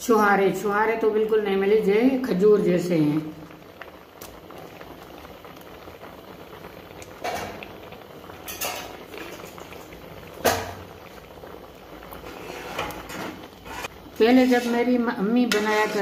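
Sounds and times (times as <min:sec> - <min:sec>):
pot bubbling at the boil: 0:00.0 - 0:16.0.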